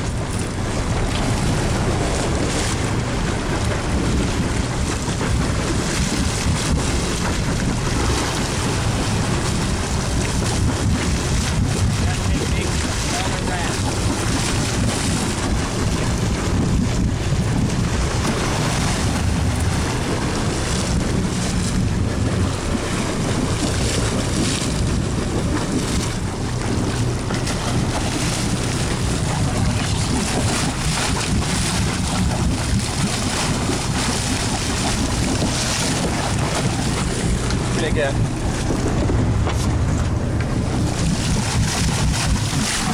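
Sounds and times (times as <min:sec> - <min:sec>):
boat engine humming: 0:00.0 - 0:42.9
water rushing along boat hull: 0:00.0 - 0:42.9
wind buffeting microphone: 0:00.0 - 0:42.9.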